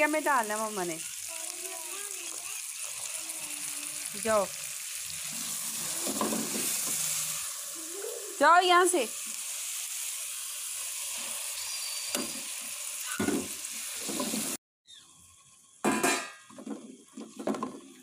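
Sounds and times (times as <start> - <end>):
curry sizzling in a pot: 0.0 - 18.0.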